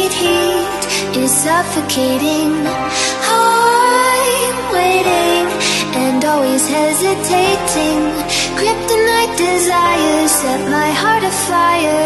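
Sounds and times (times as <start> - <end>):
pop song: 0.0 - 12.0.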